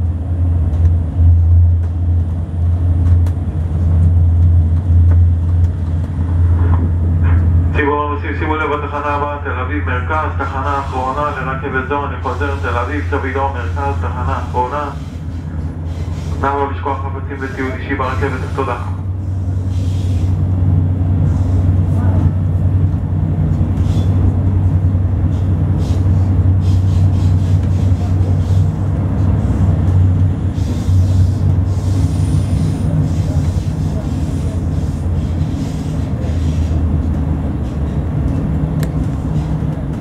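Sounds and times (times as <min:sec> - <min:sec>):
train interior rumble: 0:00.0 - 0:40.0.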